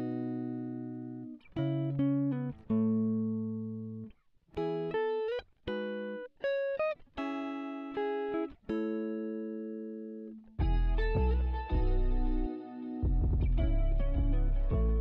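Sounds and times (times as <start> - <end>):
slow plucked string music: 0.0 - 15.0.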